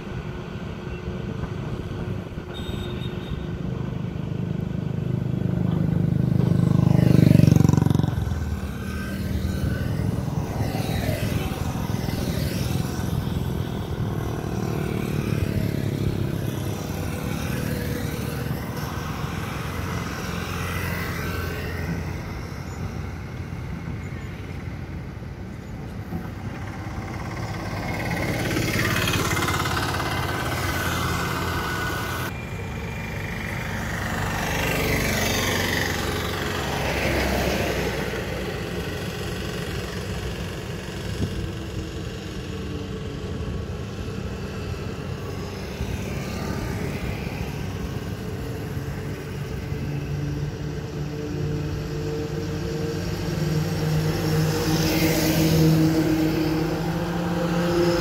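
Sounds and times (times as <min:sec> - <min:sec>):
diesel engine hum: 0:00.0 - 0:58.0
motorcycles passing: 0:00.0 - 0:58.0.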